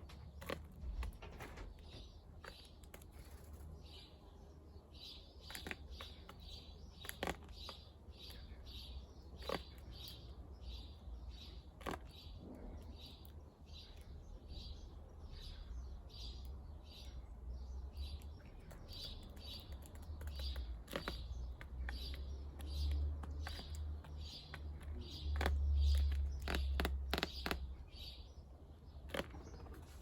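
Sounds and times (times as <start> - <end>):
small bird chirping: 0.0 - 30.0.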